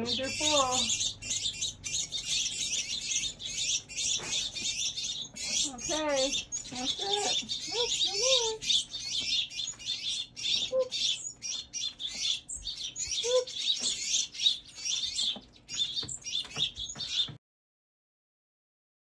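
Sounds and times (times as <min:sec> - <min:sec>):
baby birds chirping: 0:00.0 - 0:17.4.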